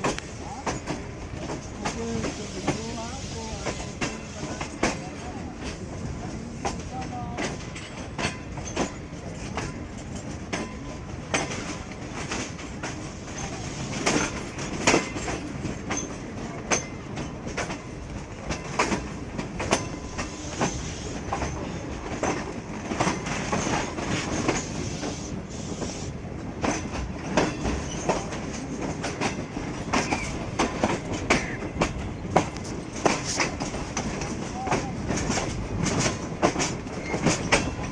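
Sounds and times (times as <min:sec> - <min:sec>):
train rumble: 0:00.0 - 0:37.9
train wheels clacking over rail joints: 0:00.0 - 0:37.9.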